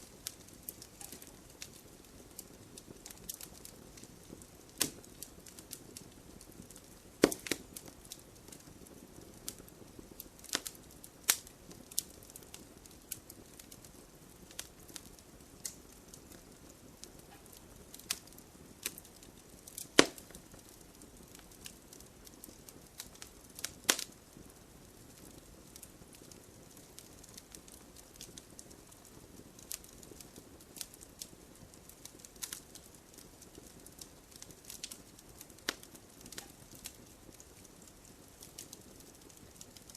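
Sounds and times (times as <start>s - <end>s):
campfire crackling and popping: 0.0s - 39.9s
soft low hiss: 0.0s - 39.9s.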